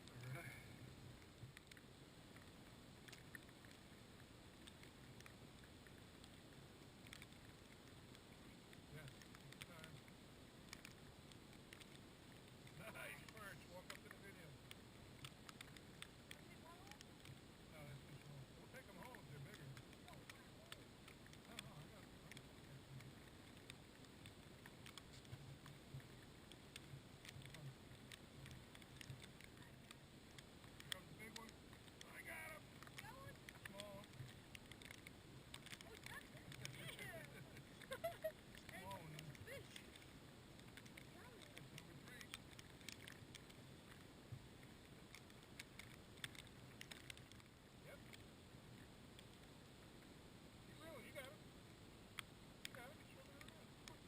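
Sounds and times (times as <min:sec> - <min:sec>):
light ticks: 0:00.0 - 0:50.2, 0:52.1 - 0:54.0
faint clicks: 0:00.0 - 0:54.0
faint low rumble: 0:00.0 - 0:54.0
faint outdoor hiss: 0:00.0 - 0:54.0.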